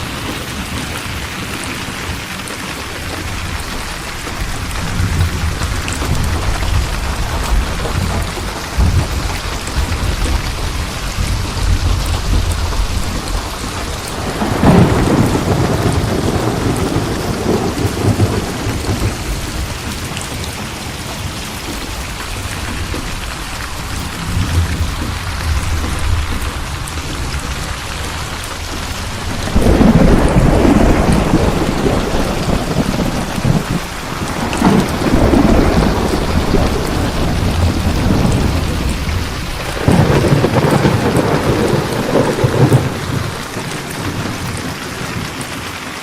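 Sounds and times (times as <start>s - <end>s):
heavy rain: 0.0s - 46.0s
rolling thunder: 3.2s - 45.4s.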